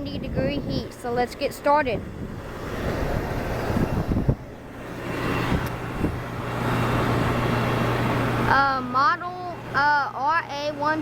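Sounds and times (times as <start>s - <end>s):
air conditioner fan noise: 0.0s - 11.0s
low compressor hum: 0.0s - 11.0s.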